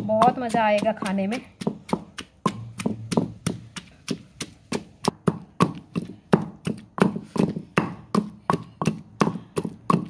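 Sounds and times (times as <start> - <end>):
pestle pounding in stone mortar: 0.0 - 10.0.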